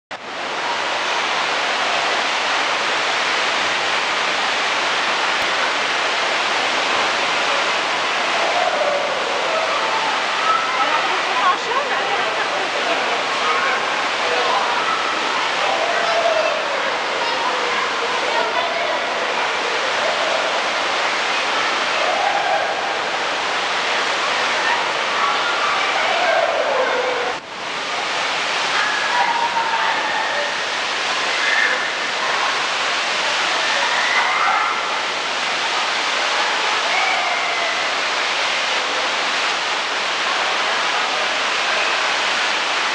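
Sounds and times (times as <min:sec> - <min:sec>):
water streaming down slides: 0:00.2 - 0:42.9.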